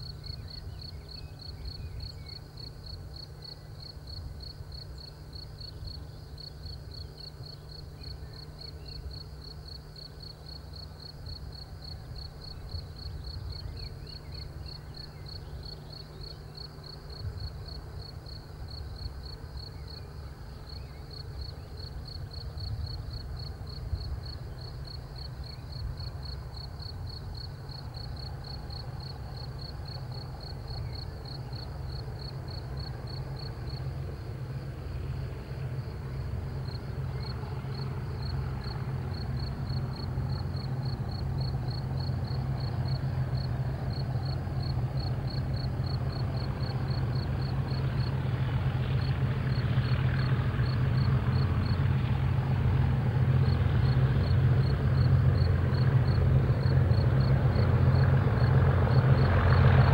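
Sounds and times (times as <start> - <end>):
crickets chirping: 0.0 - 59.9
distant diesel locomotive rumble: 0.0 - 59.9.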